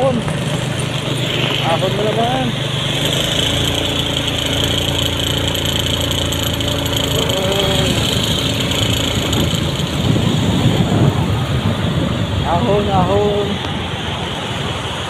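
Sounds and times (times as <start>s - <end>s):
road noise: 0.0s - 15.0s
vehicle engine rumbling: 0.0s - 15.0s.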